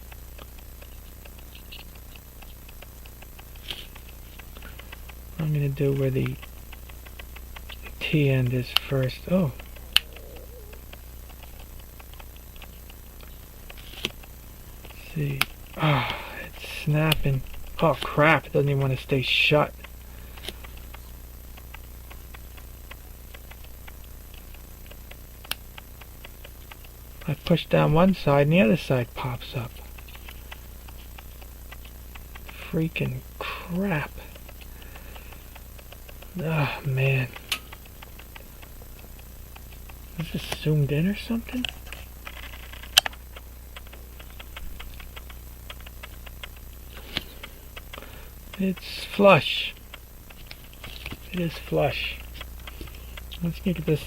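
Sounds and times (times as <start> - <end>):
faint even ticking: 0.0 - 54.0.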